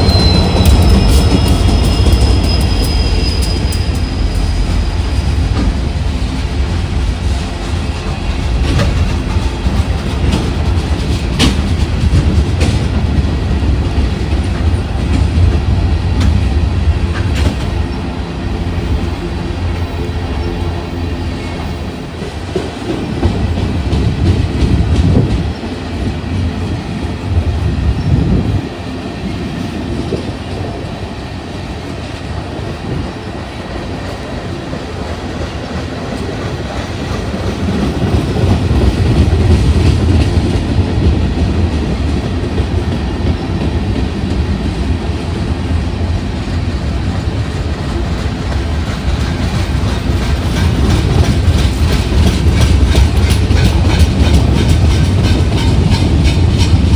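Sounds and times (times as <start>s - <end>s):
train rolling past: 0.0s - 56.9s.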